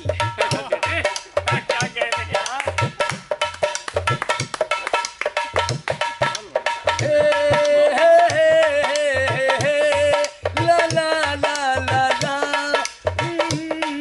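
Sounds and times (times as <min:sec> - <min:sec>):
hand drum rhythm: 0:00.0 - 0:14.0.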